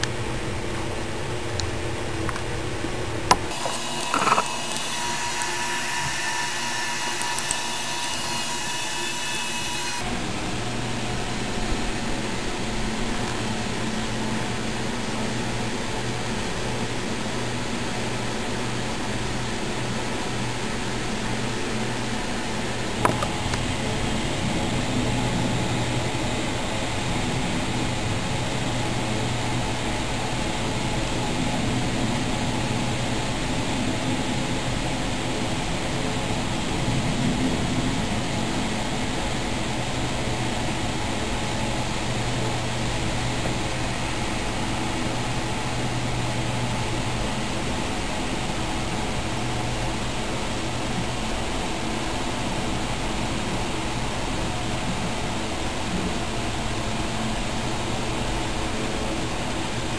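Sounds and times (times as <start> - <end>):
machine hum and hiss: 0.0 - 59.9.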